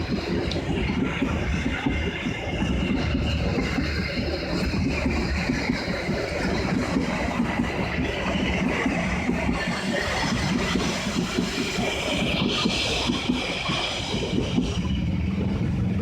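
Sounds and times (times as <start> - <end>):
diesel train engine rumble: 0.0 - 16.0.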